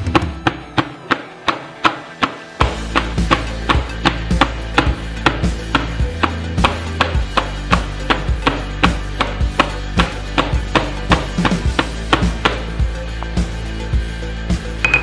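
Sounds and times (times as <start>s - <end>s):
background music with sharp strikes: 0.0s - 15.0s.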